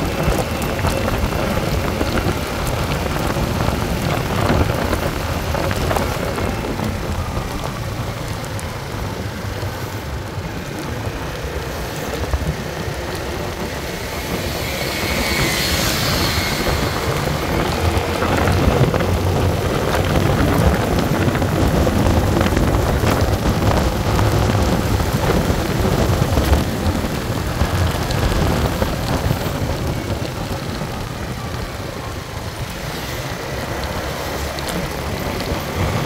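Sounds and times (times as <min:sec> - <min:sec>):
engine noise: 0:00.0 - 0:36.0
road noise: 0:00.0 - 0:36.0
wind buffeting microphone: 0:00.0 - 0:36.0.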